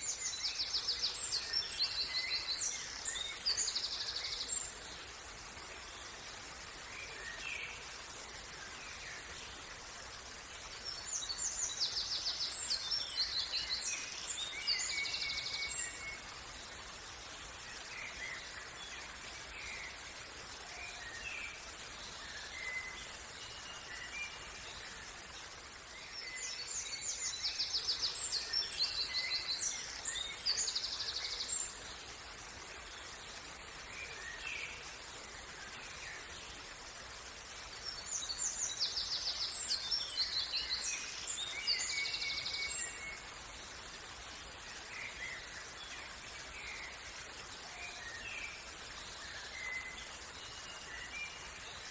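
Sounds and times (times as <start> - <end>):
steady background hiss: 0.0 - 51.9.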